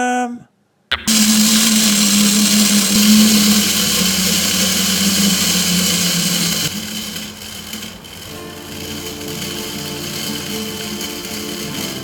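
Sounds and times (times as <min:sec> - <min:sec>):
small electric motor whirring: 0:01.0 - 0:12.0.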